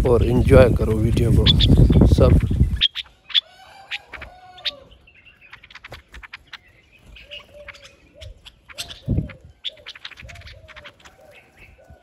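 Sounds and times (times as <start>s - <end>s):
birds chirping: 0.0s - 12.0s
chicken calling: 1.3s - 12.0s.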